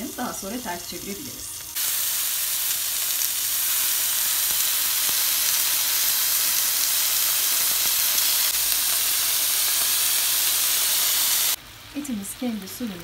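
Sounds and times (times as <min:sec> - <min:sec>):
meat sizzling on grill pan: 0:00.0 - 0:13.0.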